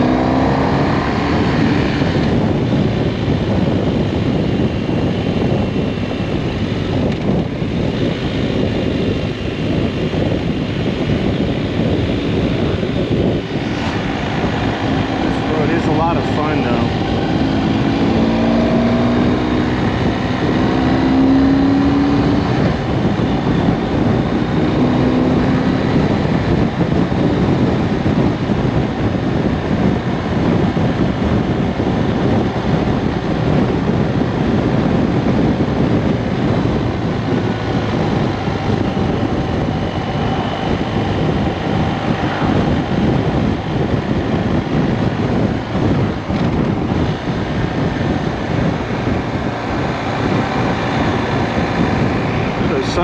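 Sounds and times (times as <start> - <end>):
motorcycle engine running: 0.0 - 53.0
wind buffeting microphone: 0.0 - 53.0.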